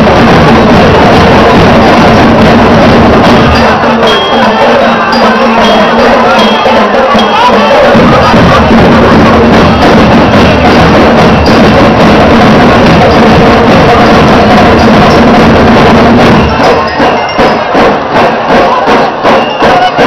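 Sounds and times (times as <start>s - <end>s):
drum beats: 0.0s - 20.0s
marching band playing: 0.0s - 20.0s.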